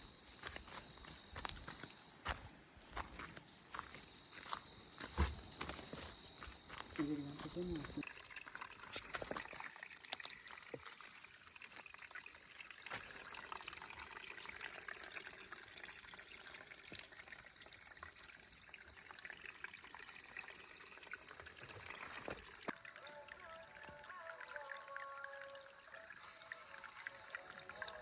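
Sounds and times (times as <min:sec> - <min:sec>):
faint water trickling: 0:00.0 - 0:28.0.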